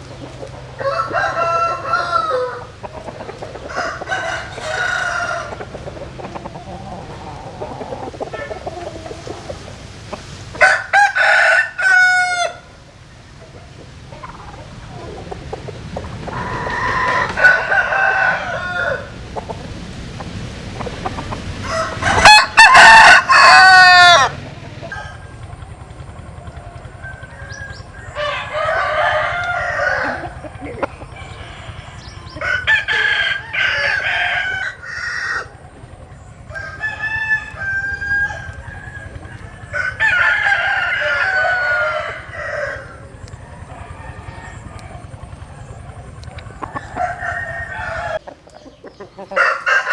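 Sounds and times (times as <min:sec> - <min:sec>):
roosters crowing: 0:00.0 - 0:49.9.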